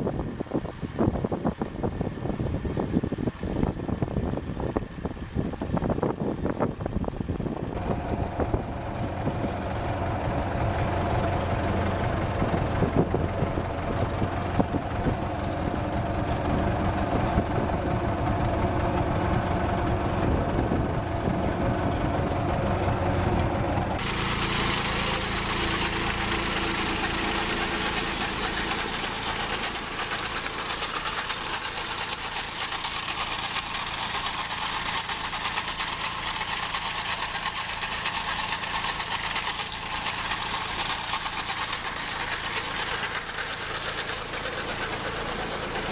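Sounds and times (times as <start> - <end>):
small tractor engine hissing: 0.0 - 45.9
tractor engine running: 0.0 - 45.9.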